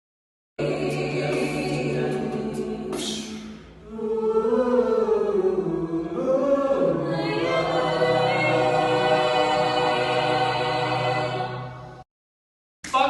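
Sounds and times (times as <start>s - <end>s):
a cappella group singing: 0.6s - 12.0s.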